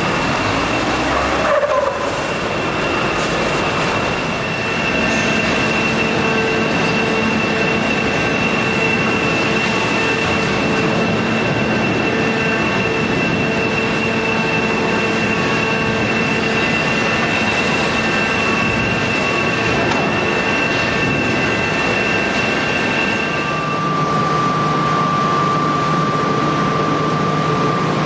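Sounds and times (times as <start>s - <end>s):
constant high whine: 0.0s - 28.0s
industrial machinery din: 0.0s - 28.0s.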